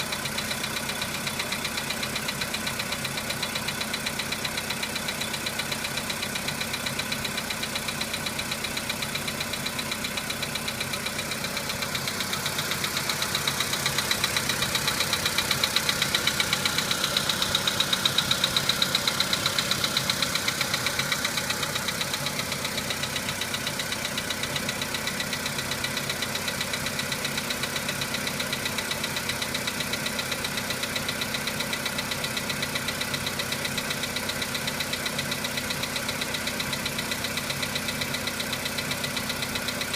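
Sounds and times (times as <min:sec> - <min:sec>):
car engine idling: 0:00.0 - 0:39.9
fast engine knock: 0:00.0 - 0:39.9.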